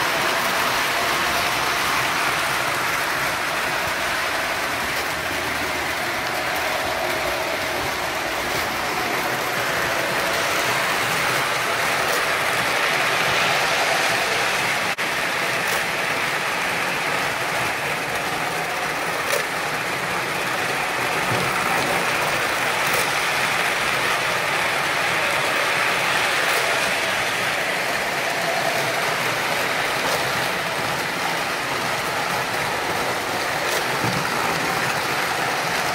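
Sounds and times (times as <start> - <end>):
model train wheels rumbling: 0.0 - 35.9.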